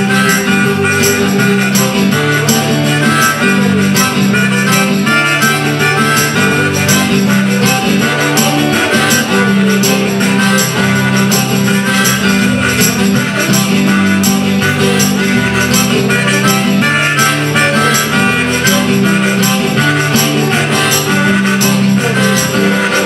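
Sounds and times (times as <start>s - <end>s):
held low notes: 0.0s - 23.0s
steady percussive beat: 0.0s - 23.0s
strummed acoustic guitars: 0.0s - 23.0s.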